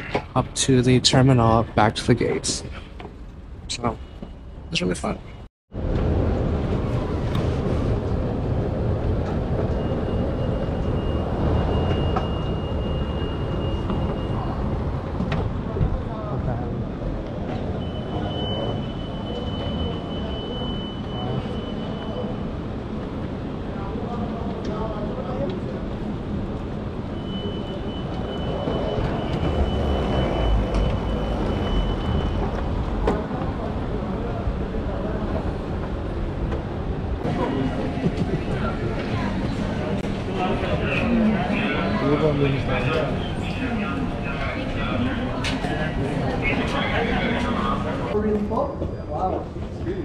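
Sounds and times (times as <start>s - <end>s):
low rumble of hall: 0.0s - 50.0s.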